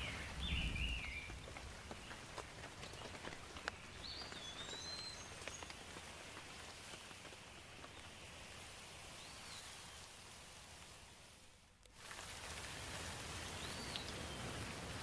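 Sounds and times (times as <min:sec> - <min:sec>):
rain falling on foliage: 0:00.0 - 0:15.0.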